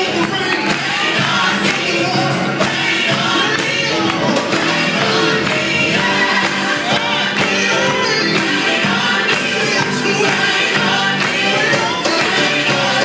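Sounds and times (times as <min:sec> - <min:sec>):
choir singing with live band: 0:00.0 - 0:13.0.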